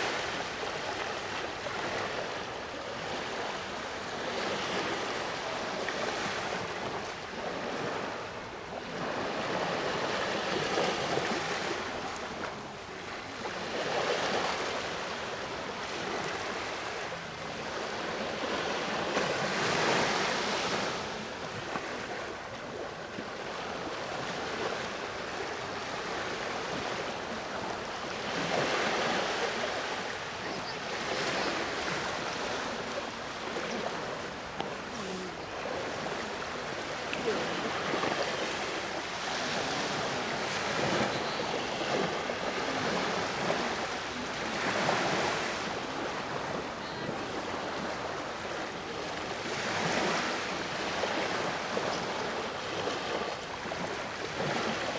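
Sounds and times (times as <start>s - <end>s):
waves breaking on shore: 0.0s - 54.9s.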